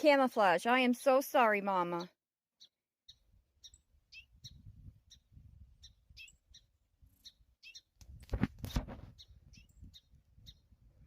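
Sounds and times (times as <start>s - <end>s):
bird chirping: 0.9s - 8.0s, 8.6s - 10.8s.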